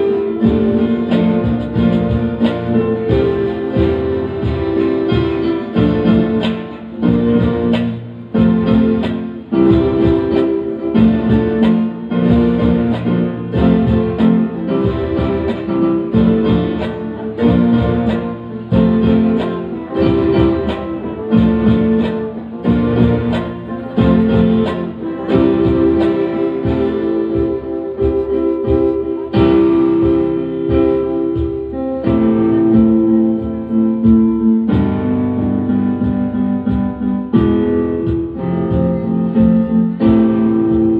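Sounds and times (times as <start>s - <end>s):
electric guitar: 0.0s - 40.9s
electronic keyboards: 0.0s - 40.9s
hand drum steady beat: 0.0s - 40.9s.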